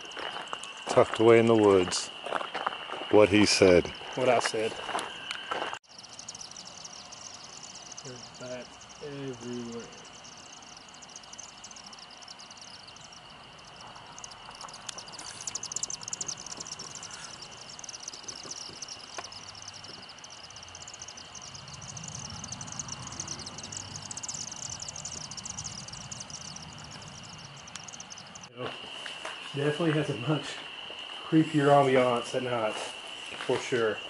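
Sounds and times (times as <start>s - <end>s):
crickets and insects chirping: 0.0s - 34.0s.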